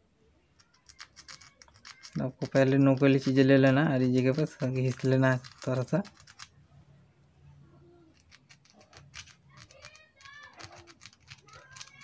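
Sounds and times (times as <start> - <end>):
birds calling faintly: 0.0 - 12.0
tool scraping copper wire: 0.6 - 6.5, 8.2 - 12.0.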